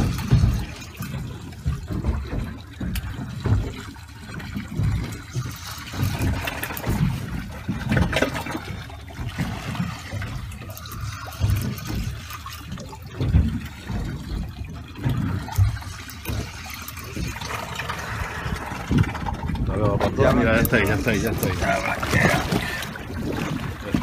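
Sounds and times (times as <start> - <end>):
low buffeting: 0.0 - 24.0
water lapping against boat: 0.0 - 24.0.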